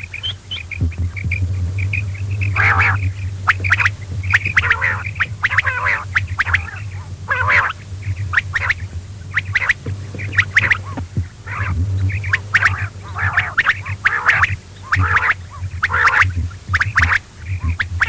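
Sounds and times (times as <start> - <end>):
quail chirping: 0.0 - 18.0
steady low hum: 0.0 - 18.0.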